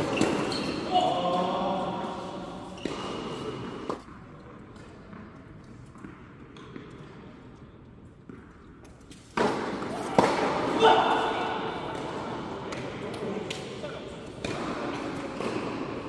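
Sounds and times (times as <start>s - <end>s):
tennis ball bouncing echoing: 0.0s - 4.2s, 4.8s - 16.0s.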